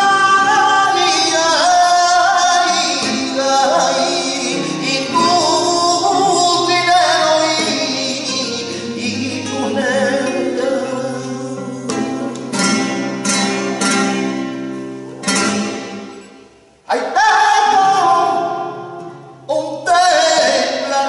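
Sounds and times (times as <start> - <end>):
man singing flamenco: 0.0 - 14.0, 16.9 - 21.0
flamenco guitar strumming: 0.0 - 21.0.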